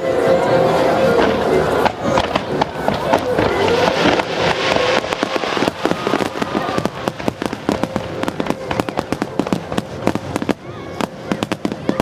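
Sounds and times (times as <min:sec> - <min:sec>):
fireworks cracking and popping: 0:01.2 - 0:12.0.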